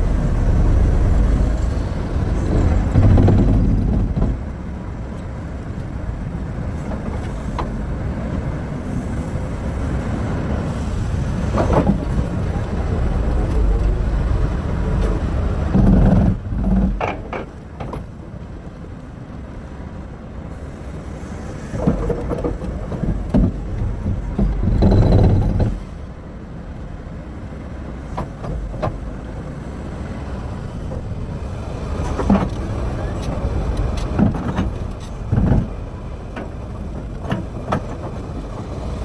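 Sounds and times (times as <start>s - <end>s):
excavator diesel engine rumbling: 0.0s - 39.0s.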